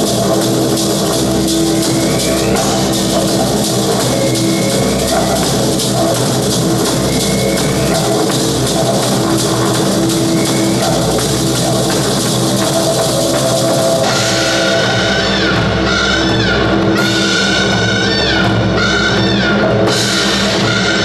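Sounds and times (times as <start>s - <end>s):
held pitched tones: 0.0s - 20.9s
fast dense drumming: 0.0s - 21.0s.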